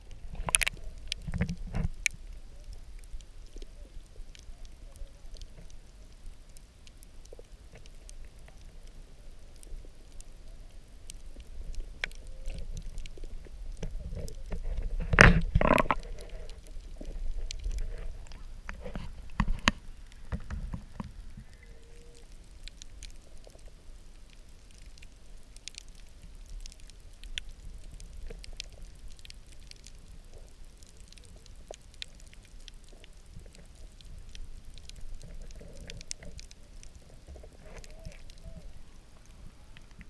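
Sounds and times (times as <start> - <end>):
sharp underwater clicks and crackles: 0.0 - 40.0
underwater water noise: 0.0 - 40.0
water splashing against camera: 0.0 - 40.0.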